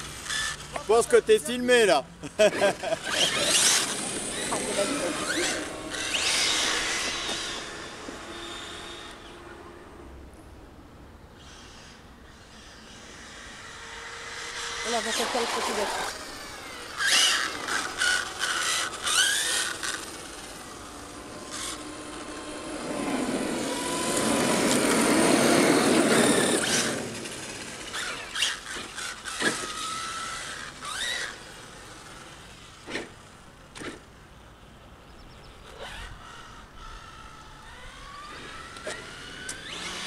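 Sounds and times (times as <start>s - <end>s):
toy car motor bursts: 0.0s - 1.3s, 2.4s - 9.7s, 11.4s - 34.1s, 35.6s - 40.0s
toy truck rushing past: 0.0s - 1.6s, 2.3s - 10.4s, 11.4s - 34.1s, 35.5s - 40.0s.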